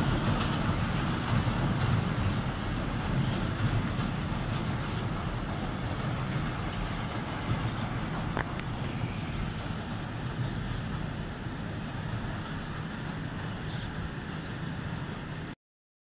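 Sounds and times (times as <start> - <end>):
train rumbling over bridge: 0.0 - 15.6.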